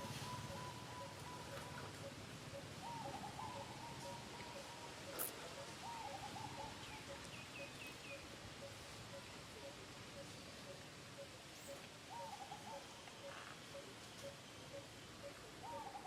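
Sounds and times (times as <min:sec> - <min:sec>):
warbling bird calls: 0:00.0 - 0:16.0.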